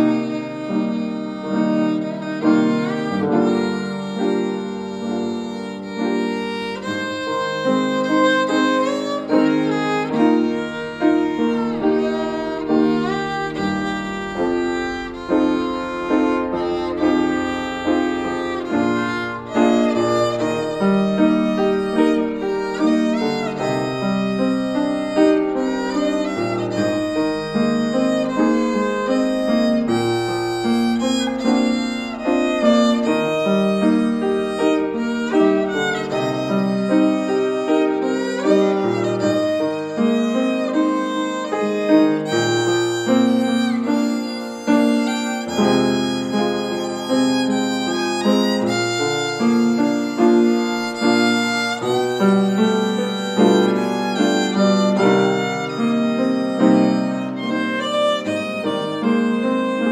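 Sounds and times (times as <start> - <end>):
piano chords: 0.0 - 59.9
violin melody: 0.0 - 59.9.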